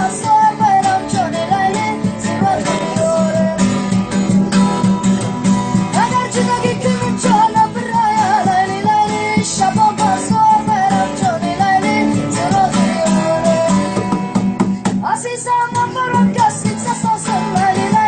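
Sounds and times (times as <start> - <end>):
person singing: 0.0 - 4.7, 5.9 - 18.0
plucked guitar: 0.0 - 18.0.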